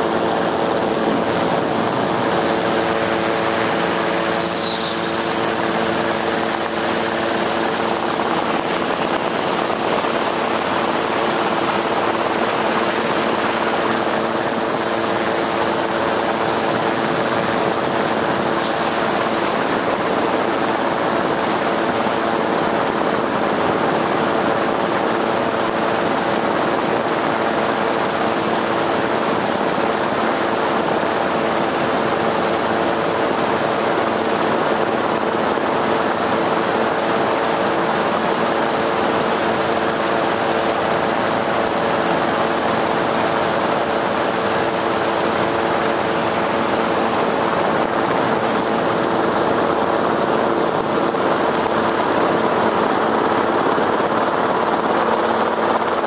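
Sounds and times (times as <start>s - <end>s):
steady motor hum: 0.0s - 56.0s.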